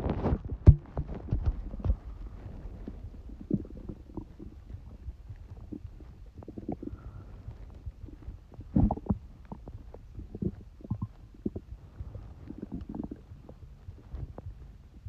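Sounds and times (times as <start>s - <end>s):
stomach rumbling and gurgling: 0.0s - 15.0s.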